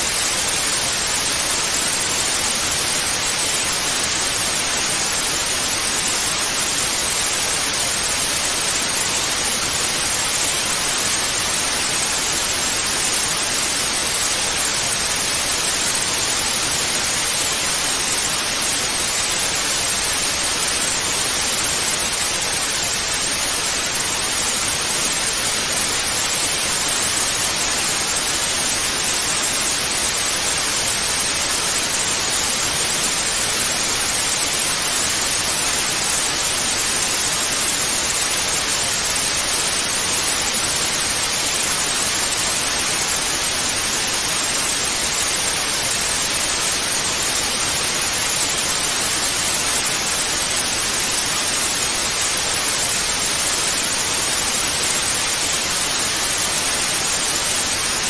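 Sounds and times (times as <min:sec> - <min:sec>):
tv static hiss: 0:00.0 - 0:58.0.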